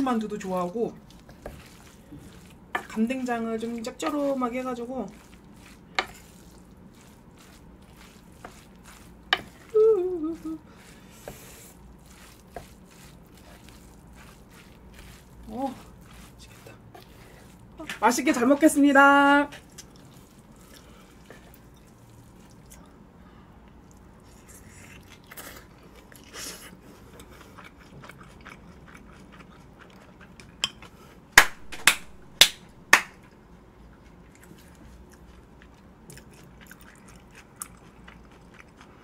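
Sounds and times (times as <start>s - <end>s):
wet chewing: 0.0s - 18.6s, 19.5s - 22.9s, 23.8s - 31.0s, 33.9s - 39.0s.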